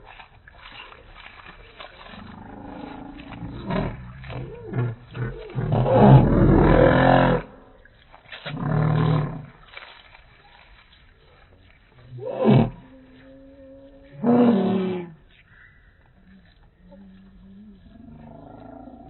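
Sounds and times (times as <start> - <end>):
geese crunching lettuce: 0.0 - 19.0.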